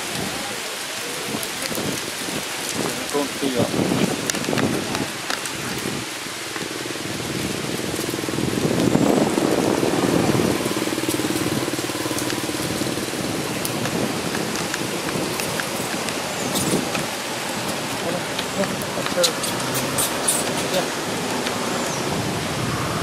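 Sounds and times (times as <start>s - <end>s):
light rain falling: 0.0s - 23.0s
raindrop ticks: 1.3s - 9.2s, 10.5s - 21.6s.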